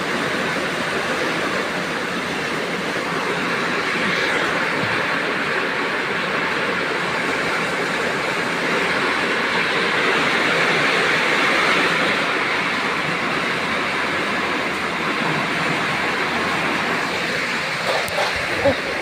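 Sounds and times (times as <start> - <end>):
heavy rain hissing: 0.0 - 19.0
strong wind: 0.0 - 19.0.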